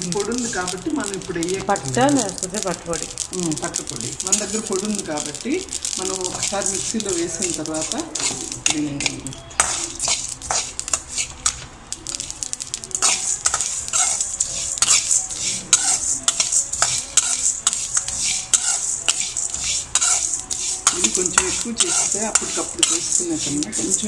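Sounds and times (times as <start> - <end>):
spoon scraping metal pan: 0.0 - 2.5, 4.2 - 24.0
seeds rattling: 0.0 - 24.0.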